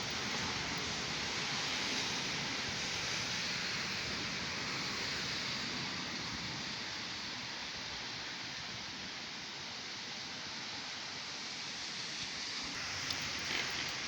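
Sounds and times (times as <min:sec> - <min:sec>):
heavy rain hiss: 0:00.0 - 0:14.0.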